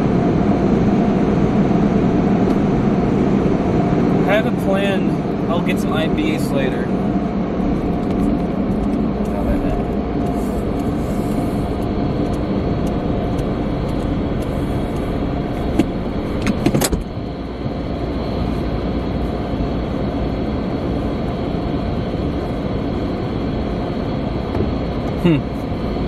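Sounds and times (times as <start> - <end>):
car cabin hum: 0.0 - 26.0.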